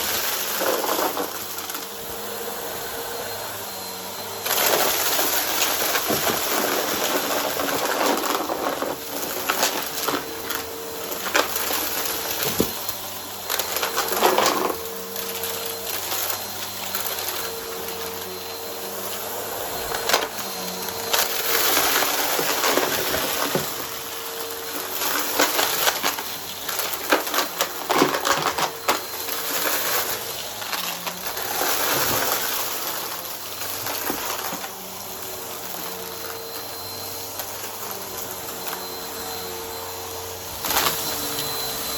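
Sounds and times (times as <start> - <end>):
debris crackling in vacuum: 0.0 - 2.1, 4.3 - 41.9
vacuum cleaner motor hum: 0.0 - 41.9.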